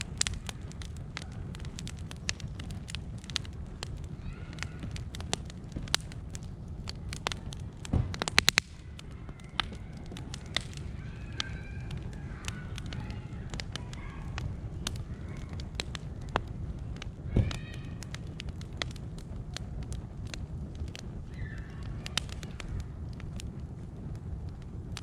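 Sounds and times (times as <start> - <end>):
low steady rumble: 0.0 - 25.0
sharp pops and snaps: 0.0 - 25.0
wood fire crackling: 0.0 - 25.0.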